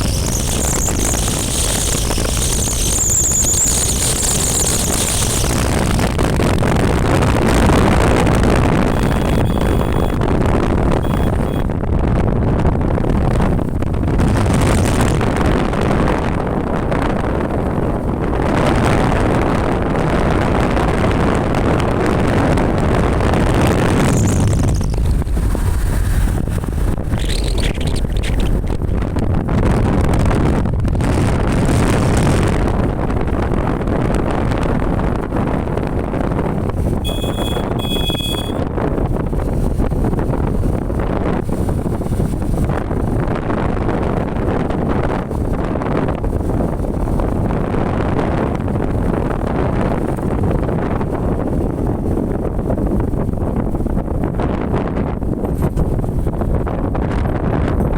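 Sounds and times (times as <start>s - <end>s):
motorcycle engine: 0.0s - 20.5s, 21.6s - 29.6s, 32.4s - 52.6s
rushing wind noise: 0.0s - 57.9s.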